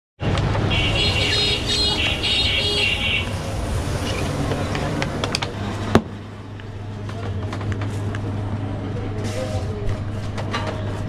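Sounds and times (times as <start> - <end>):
street traffic rumble: 0.2 - 11.0.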